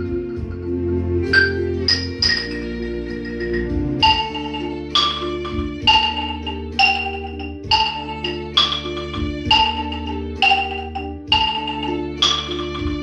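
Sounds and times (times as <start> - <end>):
held lower notes: 0.0 - 13.0
bright struck note ringing: 1.4 - 13.0.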